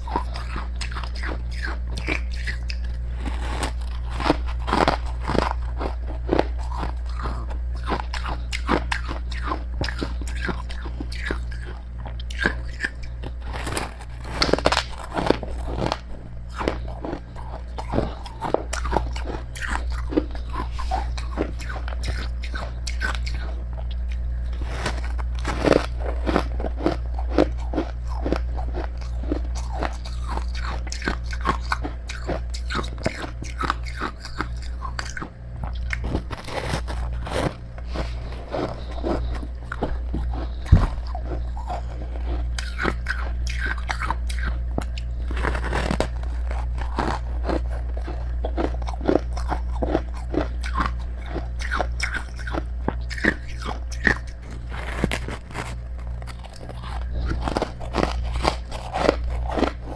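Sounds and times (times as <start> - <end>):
chewing crunchy ice: 0.0 - 59.9
steady low hum: 0.0 - 59.9.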